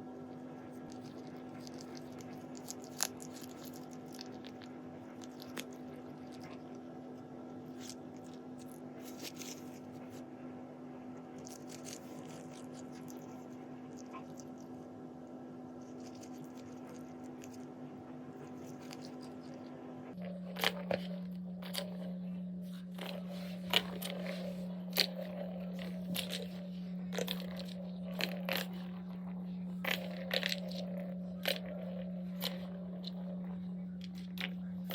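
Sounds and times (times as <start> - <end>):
cat crunching grass: 0.0 - 10.2, 11.2 - 14.9, 15.6 - 34.9
steady low hum: 0.0 - 34.9.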